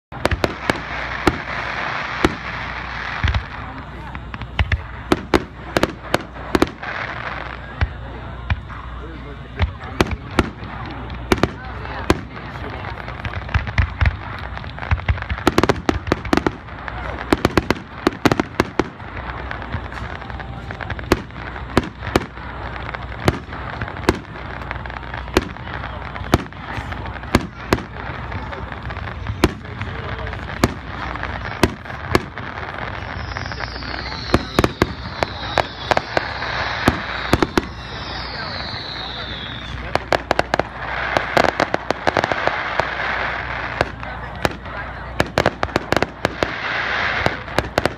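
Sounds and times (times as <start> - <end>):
fireworks bangs: 0.1 - 47.9
steady background noise: 0.1 - 47.9
steady hiss: 0.1 - 47.9.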